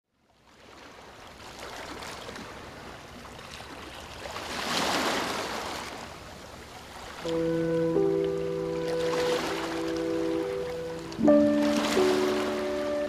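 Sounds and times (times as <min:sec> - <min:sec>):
rushing water: 0:00.4 - 0:13.0.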